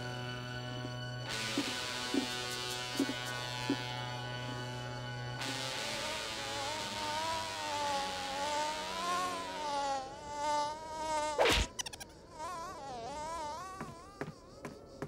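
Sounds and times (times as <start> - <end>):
cartoon insect buzzing: 1.3 - 15.0.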